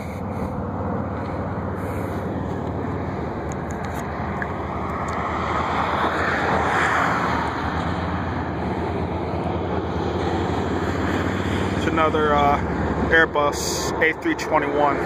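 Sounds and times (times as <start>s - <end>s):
jet airliner engine roar: 0.0s - 15.0s.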